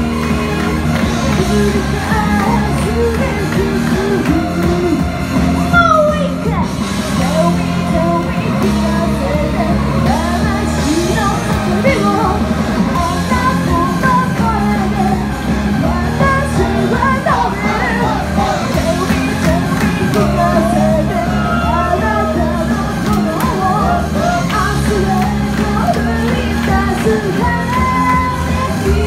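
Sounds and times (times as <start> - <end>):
loud live amplified music: 0.0 - 29.0
woman singing into microphone: 0.0 - 29.0.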